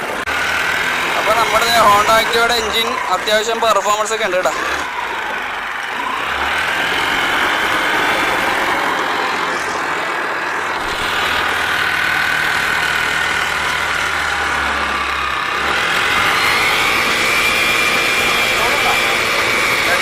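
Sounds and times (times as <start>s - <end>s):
scooter engine running: 0.0s - 20.0s.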